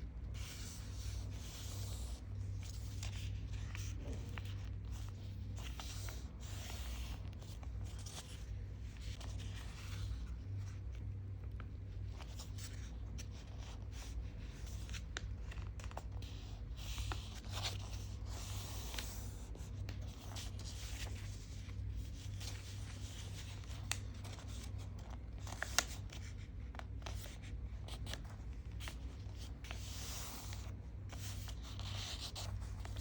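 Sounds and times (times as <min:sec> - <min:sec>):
steady low hum: 0:00.0 - 0:33.0
paper being folded and creased: 0:00.3 - 0:33.0.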